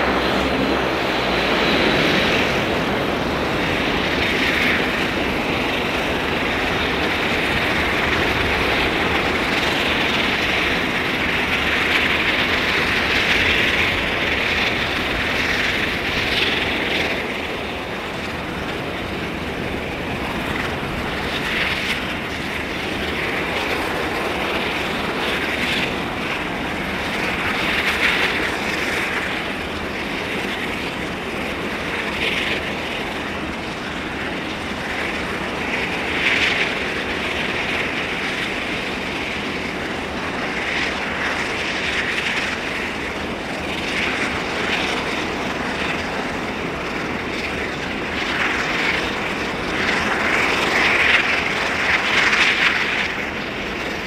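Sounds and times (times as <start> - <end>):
jet engines at taxi power: 0.0 - 54.0.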